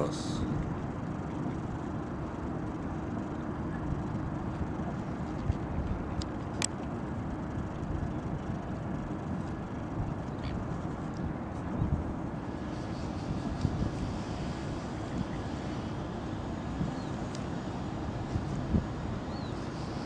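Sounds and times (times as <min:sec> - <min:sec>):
faint even hum: 0:00.0 - 0:20.0.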